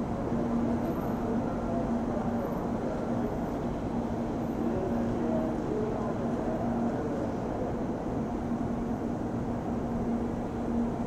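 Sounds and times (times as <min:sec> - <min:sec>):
city traffic: 0:00.0 - 0:11.0.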